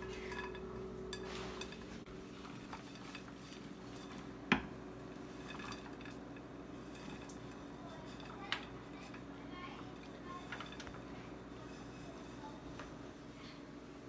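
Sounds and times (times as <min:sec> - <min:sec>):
utensil clinking against a bowl: 0:00.0 - 0:13.2
faint steady hum: 0:00.0 - 0:14.0.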